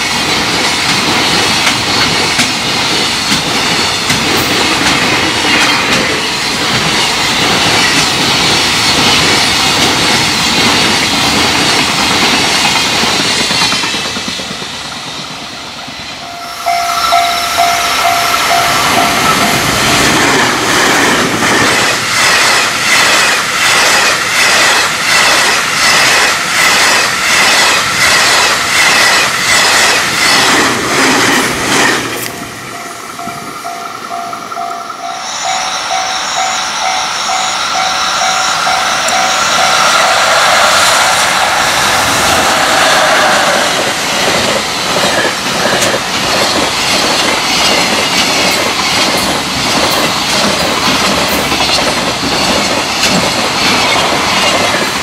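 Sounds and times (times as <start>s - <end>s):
train wheels clacking on rail joints: 0.0s - 15.4s, 16.3s - 55.0s
freight train rumbling past: 0.0s - 55.0s.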